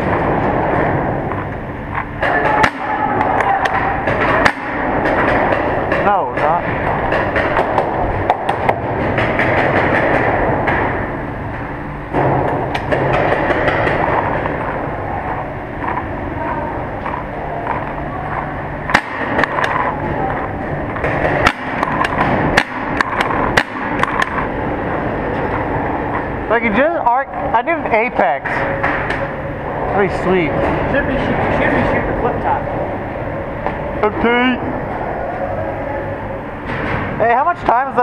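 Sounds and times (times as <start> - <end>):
loud noisy background: 0.0 - 38.0.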